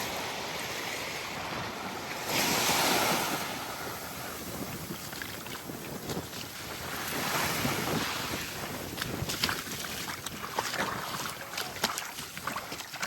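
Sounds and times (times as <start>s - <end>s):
small waves washing up beach: 0.0s - 13.0s
wind buffeting microphone: 1.2s - 13.0s.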